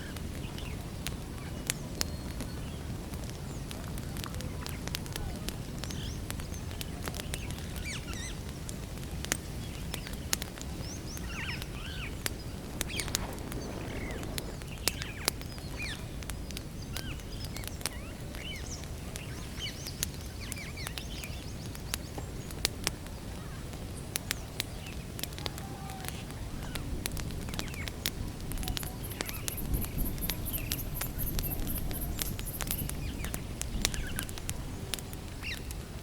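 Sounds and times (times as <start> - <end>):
small birds chirping: 0.0 - 8.6, 9.2 - 36.0
campfire crackling: 0.0 - 36.0.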